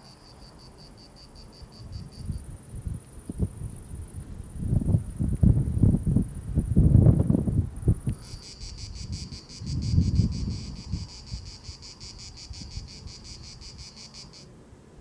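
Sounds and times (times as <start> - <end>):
cricket chirping: 0.0 - 14.5
high insect trill: 0.0 - 14.5
wind rumble on microphone: 1.5 - 14.2.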